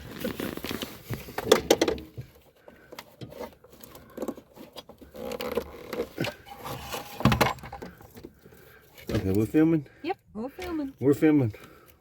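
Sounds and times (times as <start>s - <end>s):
rustling of things handled: 0.0s - 12.0s.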